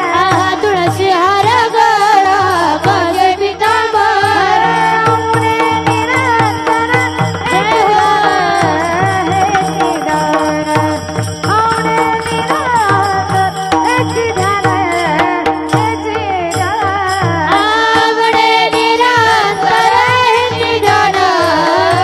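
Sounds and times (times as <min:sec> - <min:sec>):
percussion beat: 0:00.0 - 0:22.0
woman singing: 0:00.0 - 0:22.0.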